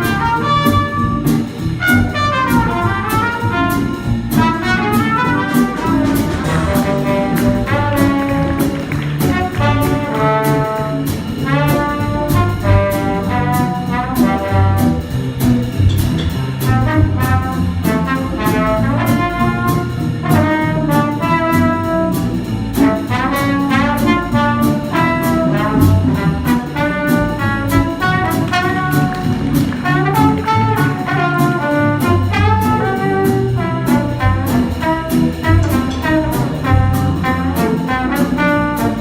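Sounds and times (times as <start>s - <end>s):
jazz combo with brass horns: 0.0s - 39.0s.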